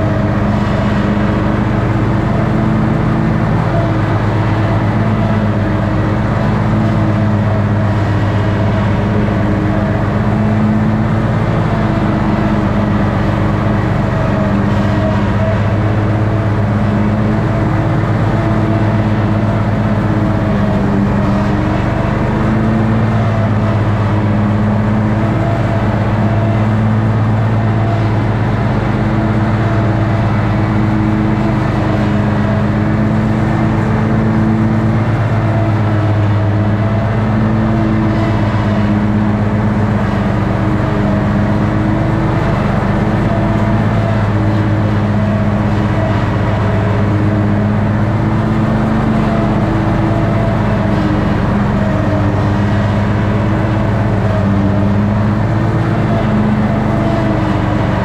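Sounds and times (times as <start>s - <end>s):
ride-on mower engine running: 0.0s - 58.0s.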